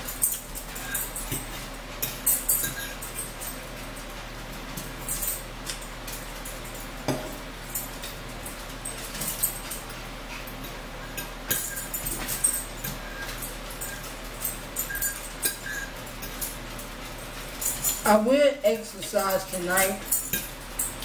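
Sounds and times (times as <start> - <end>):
forks clinking on plates: 0.0 - 4.2, 4.8 - 21.0.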